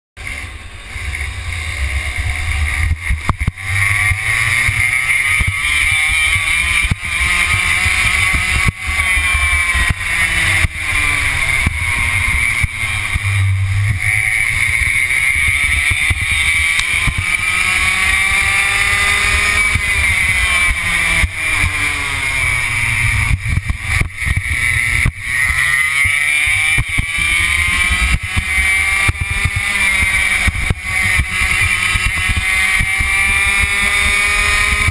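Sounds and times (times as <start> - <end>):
kart engine revving: 0.2 - 34.9.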